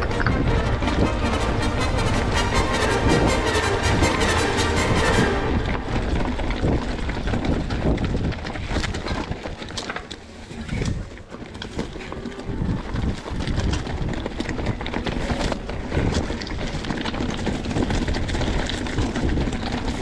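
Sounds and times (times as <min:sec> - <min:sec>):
bike rattling and knocking: 0:00.0 - 0:02.3, 0:05.3 - 0:20.0
wind noise on microphone: 0:00.0 - 0:20.0.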